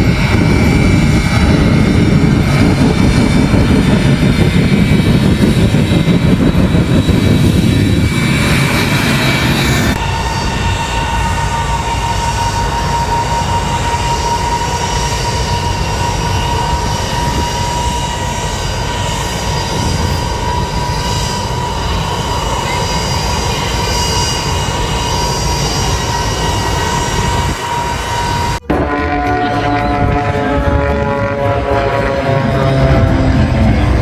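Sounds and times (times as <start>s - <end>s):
jet engine running: 0.0s - 34.0s.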